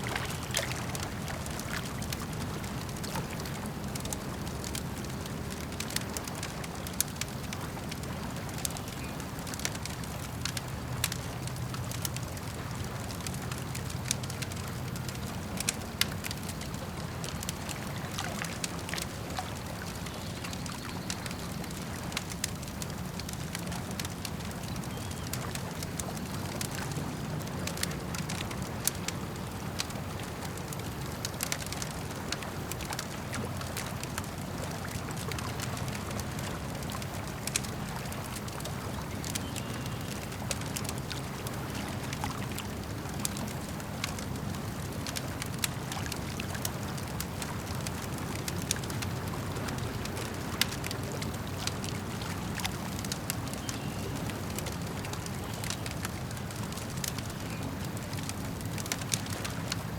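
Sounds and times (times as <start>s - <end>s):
campfire crackling and popping: 0.0s - 59.9s
lake water lapping: 0.0s - 59.9s.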